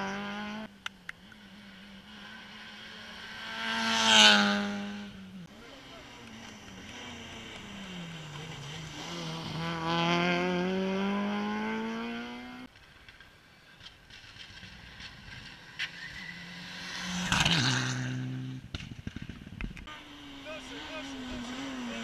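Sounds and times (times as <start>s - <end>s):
rally car engine revving: 0.0s - 12.7s, 14.1s - 22.0s
rally car rushing past: 1.4s - 12.7s, 14.1s - 22.0s.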